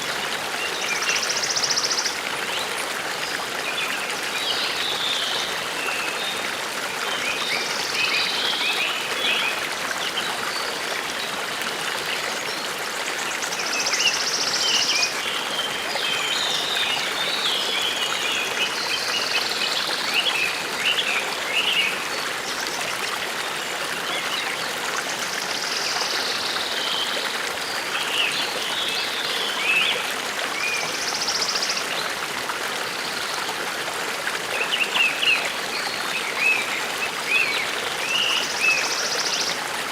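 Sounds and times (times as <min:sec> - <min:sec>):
brook running: 0:00.0 - 0:39.9.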